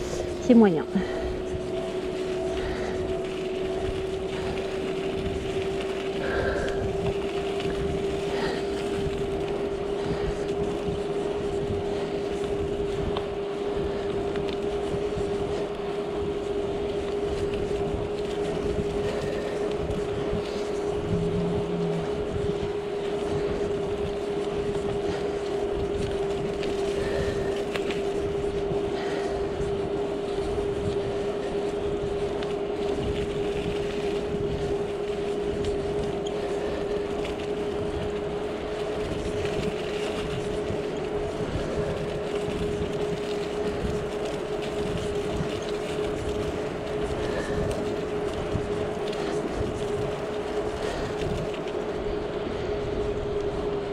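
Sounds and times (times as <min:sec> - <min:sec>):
bicycle tyres rolling on pavement: 0:00.0 - 0:53.9
wind noise: 0:00.0 - 0:53.9.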